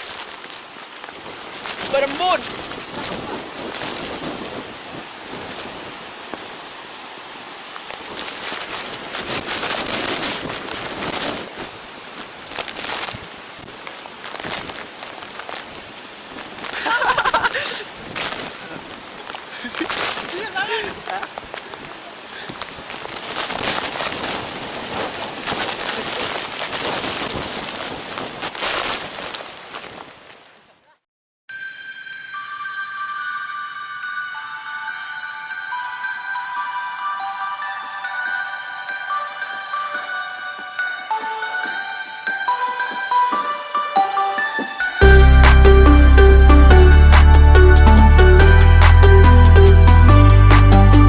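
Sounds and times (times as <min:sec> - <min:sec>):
waterfall rushing: 0:00.0 - 0:28.2, 0:32.4 - 0:51.0.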